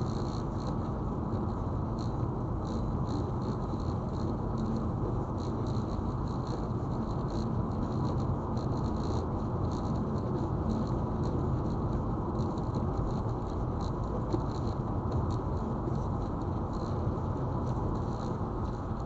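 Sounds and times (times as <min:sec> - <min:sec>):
car road and tyre noise: 0:00.0 - 0:19.0.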